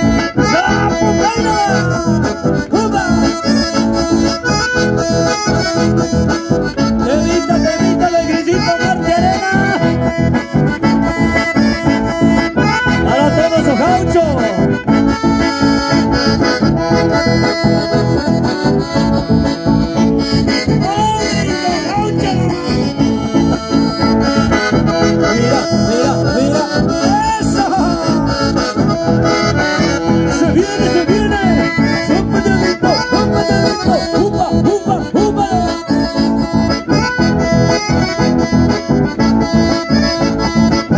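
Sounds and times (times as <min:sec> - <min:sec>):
accordion music: 0:00.0 - 0:40.9
steady rhythmic beat: 0:00.0 - 0:40.9.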